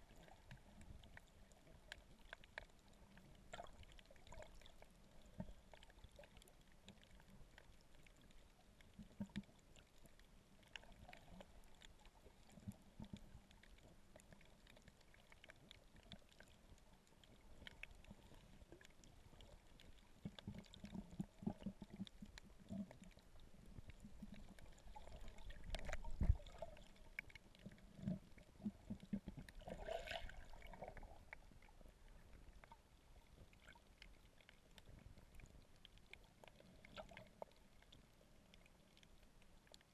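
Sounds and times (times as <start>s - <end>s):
muffled underwater water sound: 0.0s - 39.9s.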